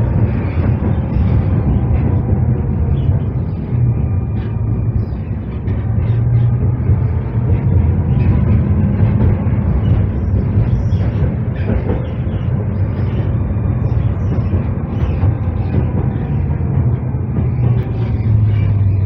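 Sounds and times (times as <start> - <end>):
tram running on track: 0.0 - 19.0.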